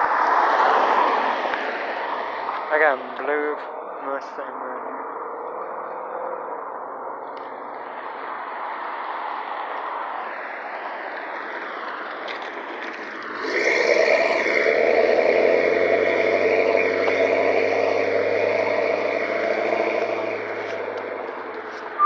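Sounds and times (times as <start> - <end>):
motor vehicle running: 1.4 - 22.0.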